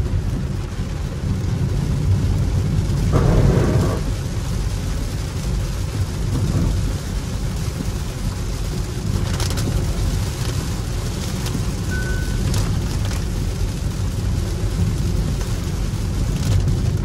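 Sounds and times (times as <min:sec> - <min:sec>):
hiss of water and rain: 0:00.0 - 0:17.0
tyre rumble on wet road: 0:00.0 - 0:17.0.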